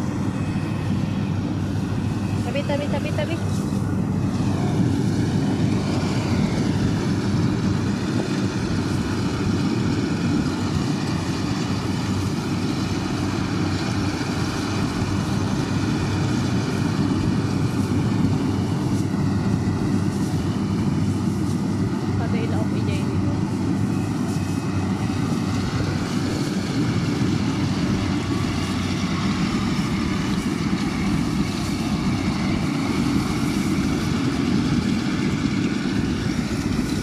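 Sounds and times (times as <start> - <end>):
combine harvester engine drone: 0.0 - 37.0.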